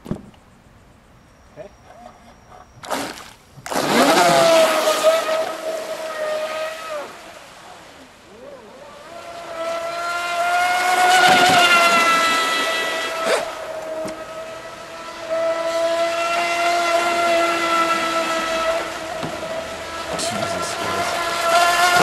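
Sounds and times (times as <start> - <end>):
model boat motor whining: 1.6 - 22.0.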